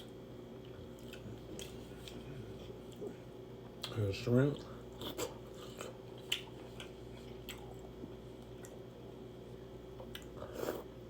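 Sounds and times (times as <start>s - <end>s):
wet chewing mouth sounds: 0.0s - 9.2s, 9.9s - 10.9s.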